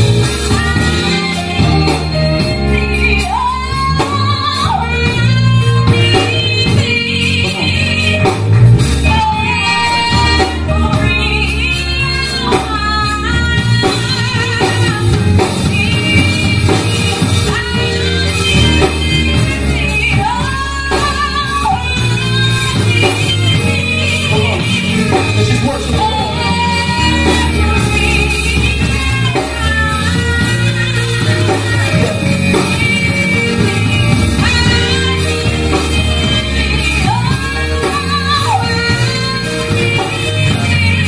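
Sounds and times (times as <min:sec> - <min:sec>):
drums: 0:00.0 - 0:41.0
electric guitar: 0:00.0 - 0:41.0
keyboard: 0:00.0 - 0:41.0
woman singing with vibrato: 0:00.0 - 0:41.0.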